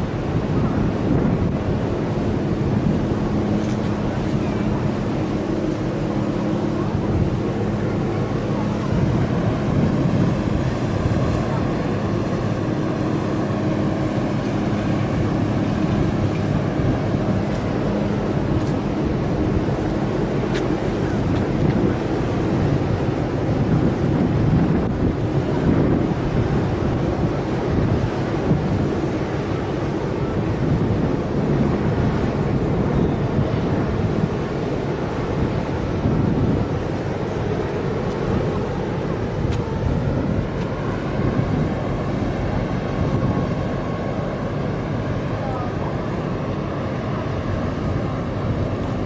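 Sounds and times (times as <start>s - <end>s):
marine engine drone: 0.0s - 49.0s
water wash: 0.0s - 49.0s
wind buffeting microphone: 0.0s - 49.0s.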